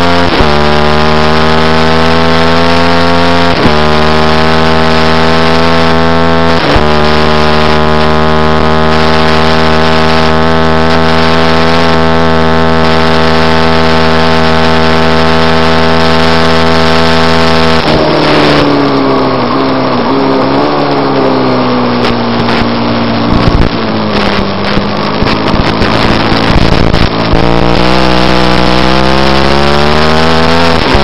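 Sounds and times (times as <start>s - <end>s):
motorcycle engine running hard: 0.0s - 31.0s.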